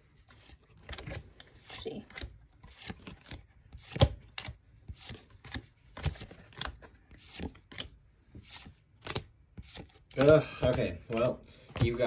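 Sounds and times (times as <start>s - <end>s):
cards being slid and flicked: 0.2s - 12.0s.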